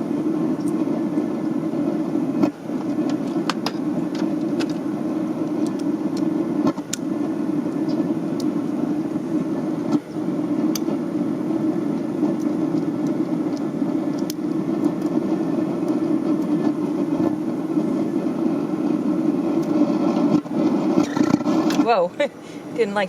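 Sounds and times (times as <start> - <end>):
gas burner rushing: 0.0 - 23.0.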